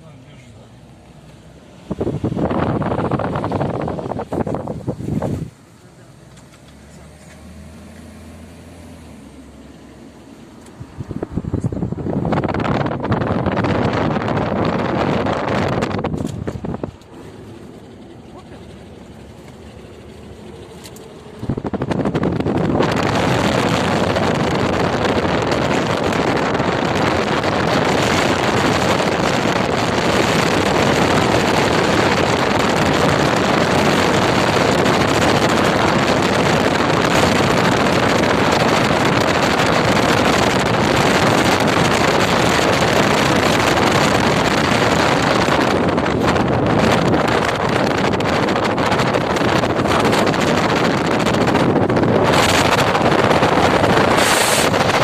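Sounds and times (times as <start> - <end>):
wind roaring over microphone: 1.4 - 5.6, 10.7 - 55.0.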